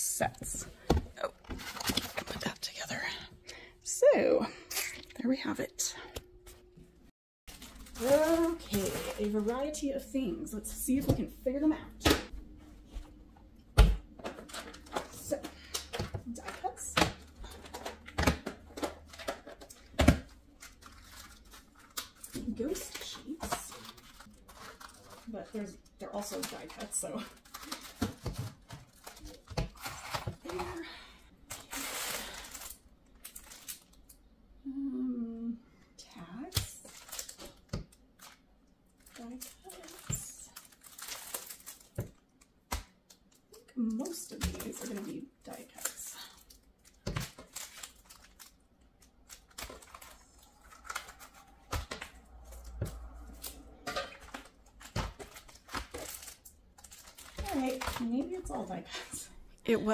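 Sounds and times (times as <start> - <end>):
plastic crinkling and rustling: 1.2 - 2.8, 7.5 - 10.7, 14.1 - 34.2, 36.2 - 59.9.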